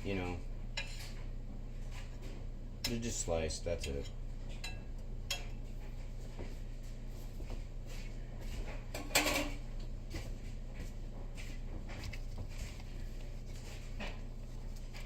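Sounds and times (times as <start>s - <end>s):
clatter of kitchen things: 0.0s - 6.6s, 7.5s - 10.6s, 11.4s - 15.0s
steady low hum: 0.0s - 15.0s.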